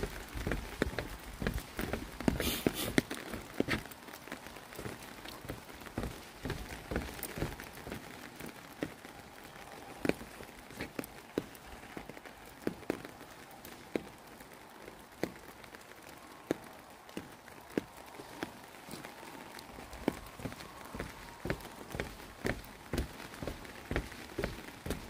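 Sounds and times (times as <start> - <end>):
footsteps on wet boardwalk: 0.0 - 25.0
light rain falling: 0.0 - 25.0.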